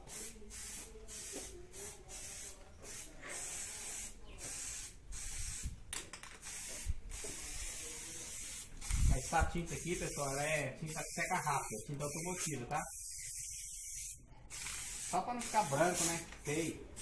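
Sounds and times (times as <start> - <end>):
aerosol spray can hissing: 0.0 - 5.8, 6.4 - 17.0.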